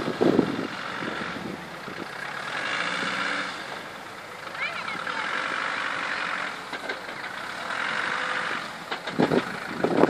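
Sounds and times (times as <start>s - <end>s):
engine running at low speed: 0.0s - 10.0s.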